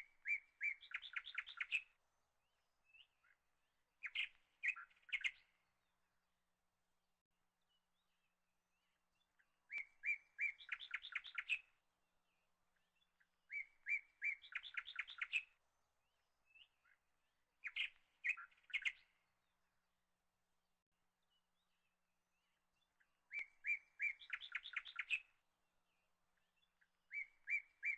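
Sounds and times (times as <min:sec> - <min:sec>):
songbird singing: 0:00.0 - 0:06.5, 0:07.4 - 0:20.0, 0:21.0 - 0:27.9.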